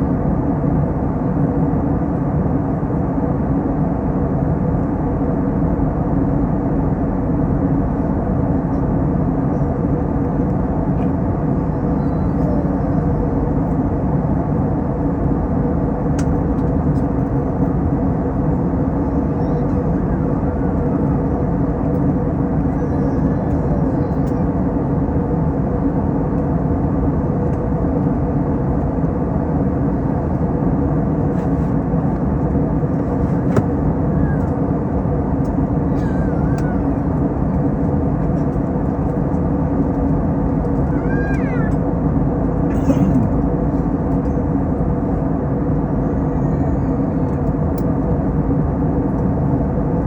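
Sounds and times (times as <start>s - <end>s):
airplane cabin engine drone: 0.0s - 50.0s
constant low hum: 0.0s - 50.0s.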